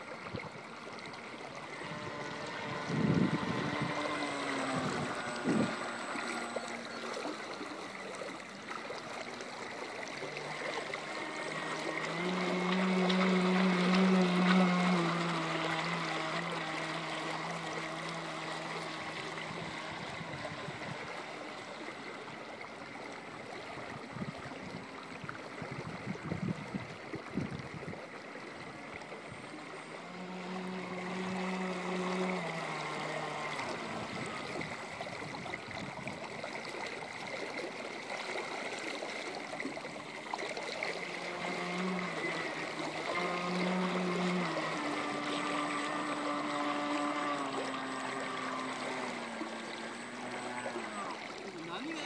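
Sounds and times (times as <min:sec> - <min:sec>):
faint motor hum: 0:00.0 - 0:52.0
small waves lapping: 0:00.0 - 0:52.0.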